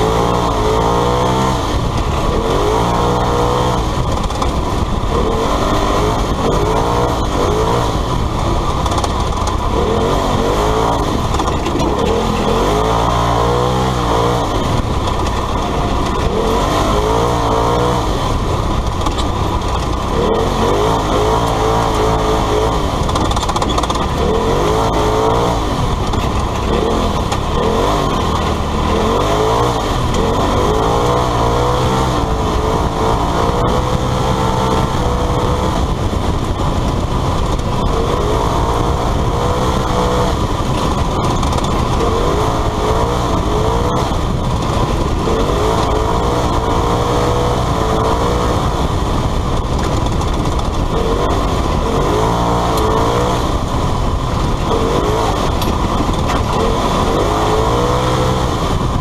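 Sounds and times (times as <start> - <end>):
engine revving: 0.0 - 59.0
road and tyre noise: 0.0 - 59.0.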